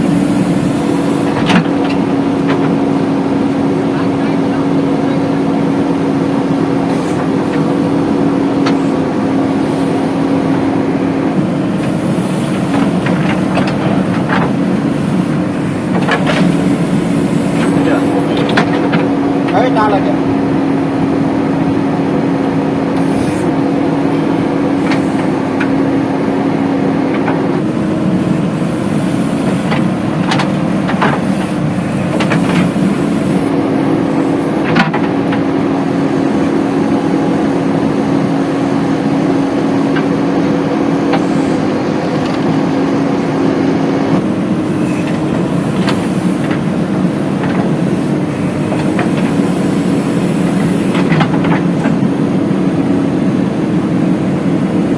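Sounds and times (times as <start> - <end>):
diesel machinery engine running: 0.0 - 54.9.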